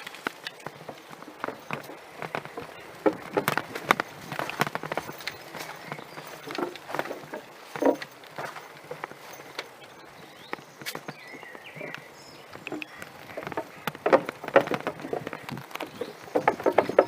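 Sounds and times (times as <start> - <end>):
footsteps scuffing on outdoor path: 0.0 - 17.0.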